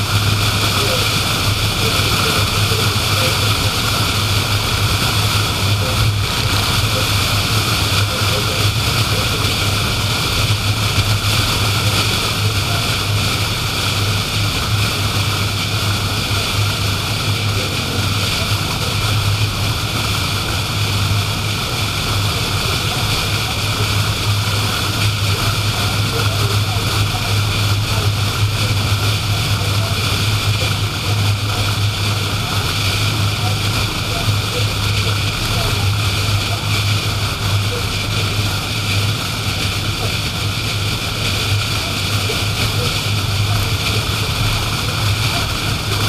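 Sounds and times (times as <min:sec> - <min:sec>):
low engine hum: 0:00.0 - 0:46.0
road and tyre noise: 0:00.0 - 0:46.0.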